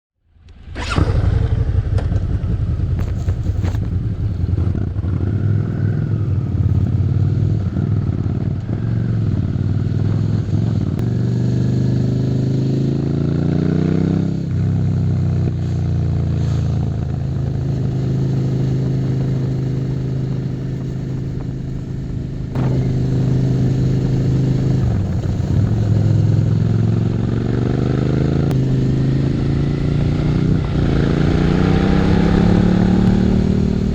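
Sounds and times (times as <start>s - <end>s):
motorcycle engine accelerating: 0.4s - 33.9s.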